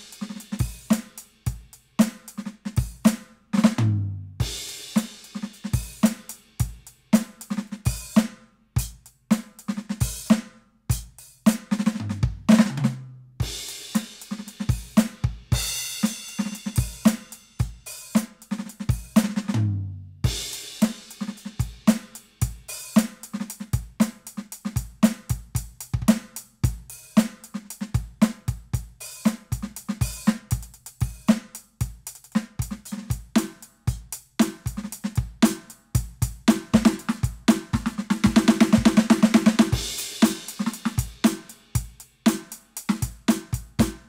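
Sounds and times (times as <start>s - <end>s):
electronic drum groove: 0.0s - 19.6s, 20.2s - 44.0s
fast drum roll: 0.0s - 44.0s.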